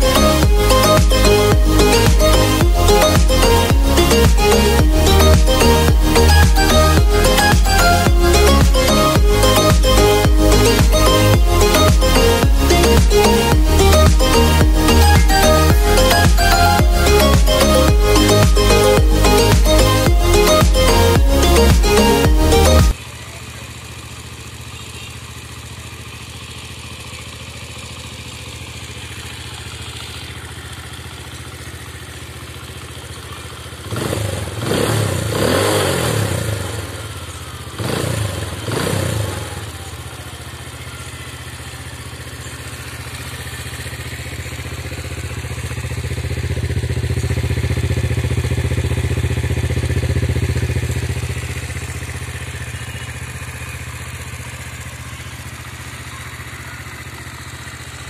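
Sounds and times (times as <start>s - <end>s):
engine revving blips: 0.0s - 23.1s, 26.2s - 54.2s
motorcycle engine idling: 0.0s - 58.0s.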